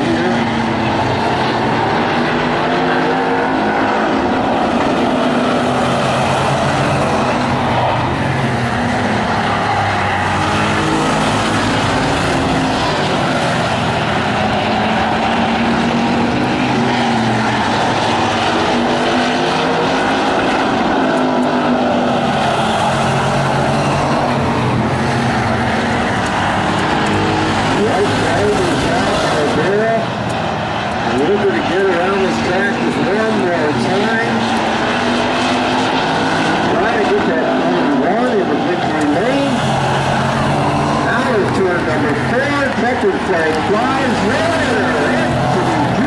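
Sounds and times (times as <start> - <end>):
race car engines lapping: 0.0 - 46.0.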